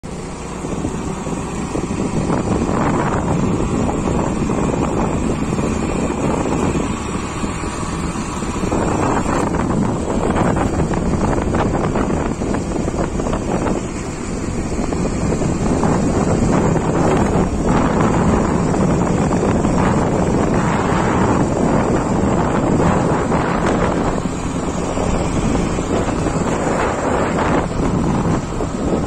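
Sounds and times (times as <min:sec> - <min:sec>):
road and vehicle rumble: 0:00.0 - 0:29.0
wind buffeting microphone: 0:00.0 - 0:29.0.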